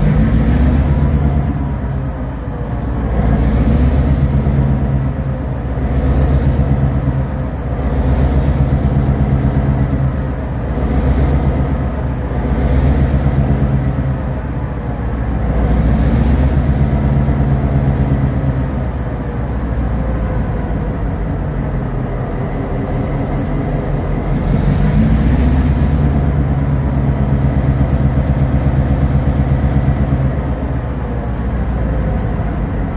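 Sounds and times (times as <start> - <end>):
diesel locomotive engine under load: 0.0 - 32.9.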